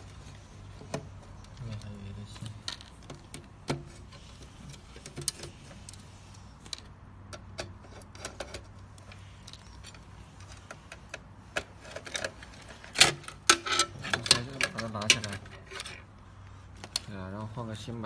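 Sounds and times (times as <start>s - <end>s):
wires and metal parts handled: 0.0s - 18.0s.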